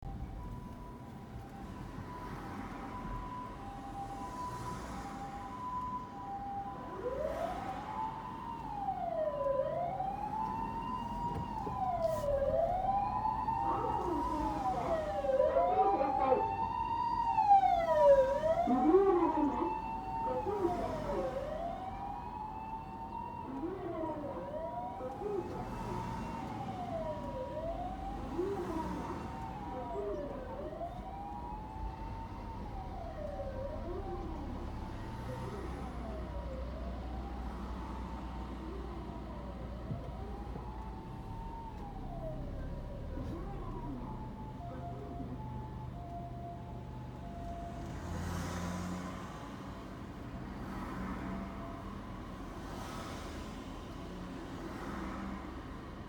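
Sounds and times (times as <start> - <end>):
ambulance siren hi-lo tone: 0.1 - 56.0
rising and falling siren wail: 1.4 - 56.0.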